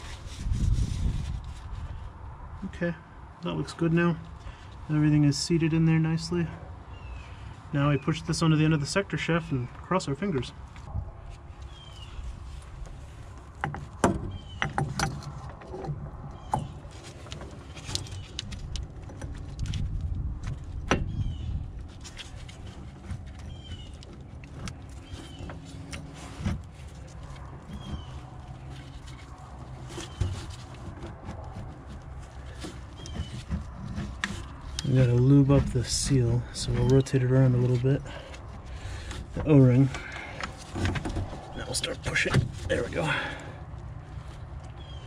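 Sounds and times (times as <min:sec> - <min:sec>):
low steady rumble: 0:00.0 - 0:45.0.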